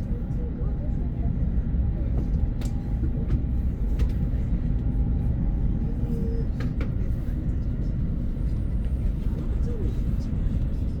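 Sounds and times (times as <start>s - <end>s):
train rumbling in motion: 0.0s - 11.0s.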